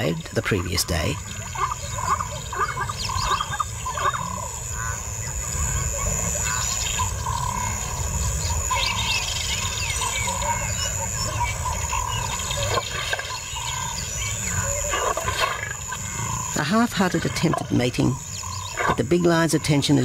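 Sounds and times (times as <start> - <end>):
birds chirping: 0.0 - 20.0
lions growling: 1.1 - 19.8.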